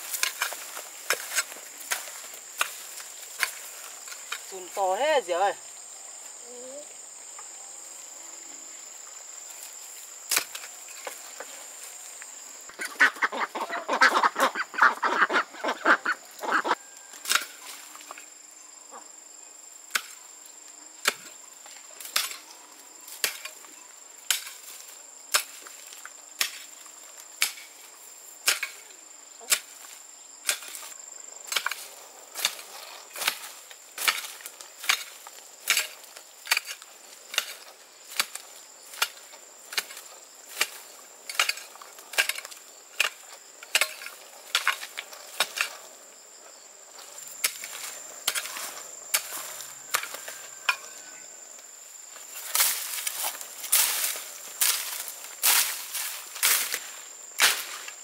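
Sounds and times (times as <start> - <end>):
high insect trill: 0.0 - 58.0.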